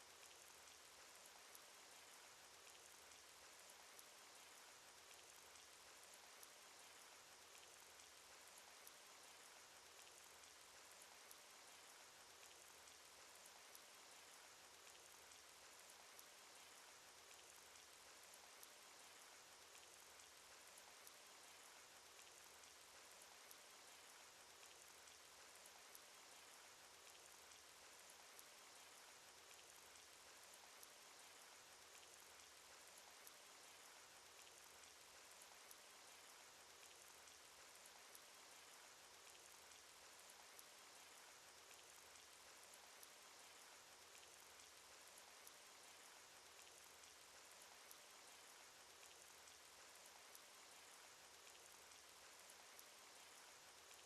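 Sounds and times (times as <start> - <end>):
sharp raindrop ticks: 0.0 - 54.0
steady rain patter: 0.0 - 54.0.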